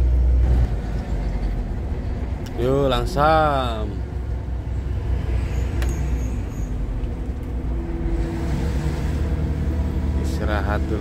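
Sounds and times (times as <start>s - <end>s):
truck diesel engine drone: 0.0s - 11.0s.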